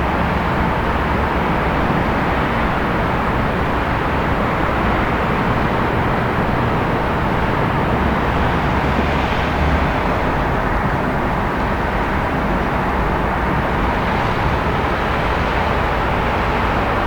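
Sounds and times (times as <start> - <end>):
road traffic rumble and hiss: 0.0 - 17.0.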